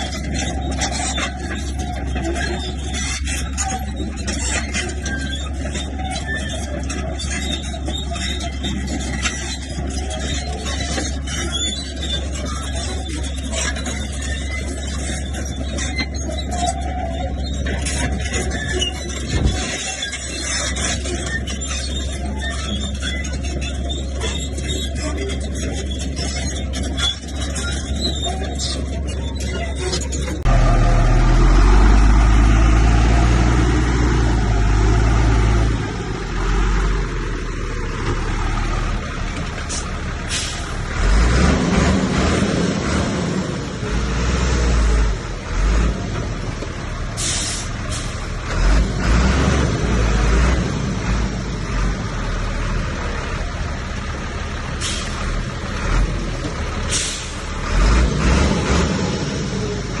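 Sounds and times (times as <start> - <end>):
heavy diesel machinery rumble: 0.0 - 60.0.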